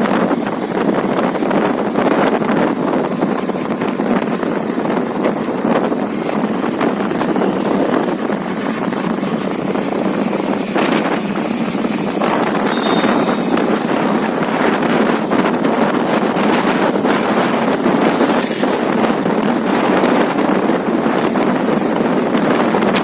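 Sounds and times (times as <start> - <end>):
wind noise on microphone: 0.0 - 23.0.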